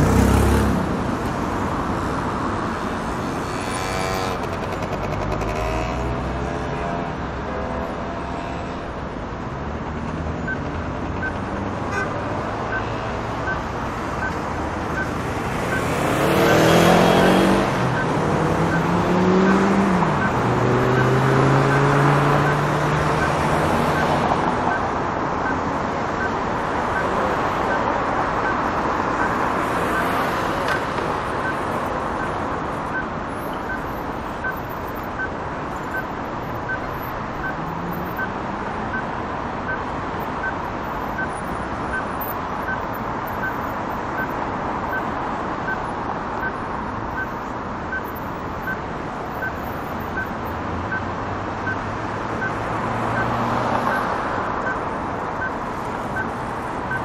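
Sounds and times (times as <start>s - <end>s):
heavy street traffic: 0.0s - 57.0s
vehicles passing close: 0.0s - 57.0s.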